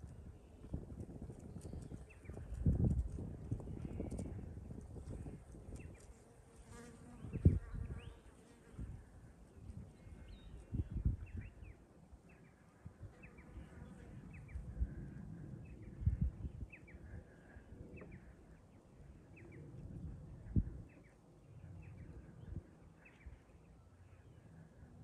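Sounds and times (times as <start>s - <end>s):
wind gusting on microphone: 0.0s - 11.8s, 12.4s - 21.0s.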